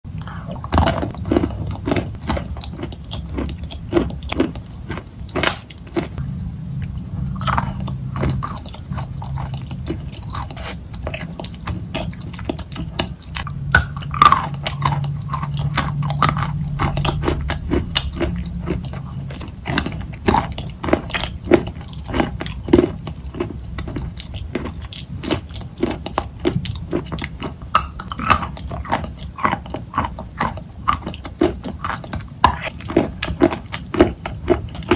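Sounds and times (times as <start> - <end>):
biting and chewing chalk: 6.8 - 34.9.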